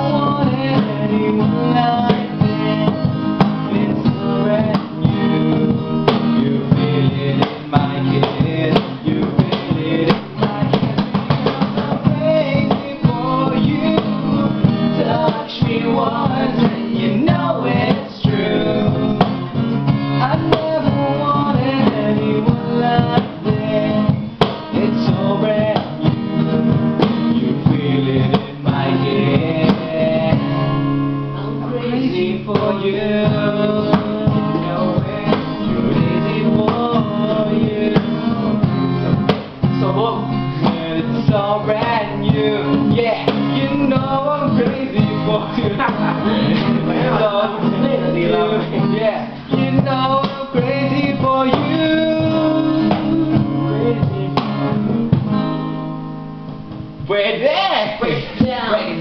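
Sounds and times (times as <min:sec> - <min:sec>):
men singing: 0:00.0 - 0:55.1
acoustic guitar strummed: 0:00.0 - 0:59.0.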